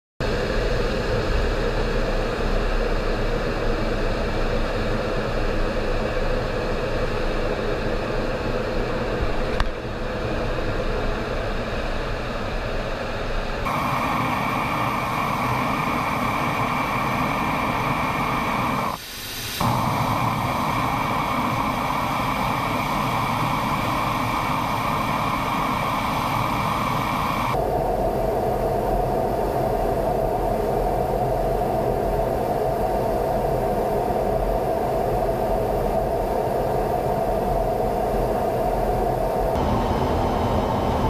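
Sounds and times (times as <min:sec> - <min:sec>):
constant hum: 0:00.2 - 0:41.0
jet cockpit engine and airflow rush: 0:00.2 - 0:41.0.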